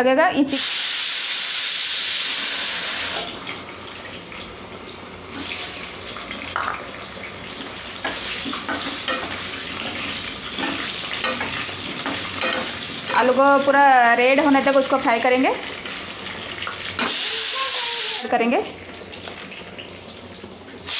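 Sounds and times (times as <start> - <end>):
potatoes sizzling in hot oil: 0.5 - 20.9.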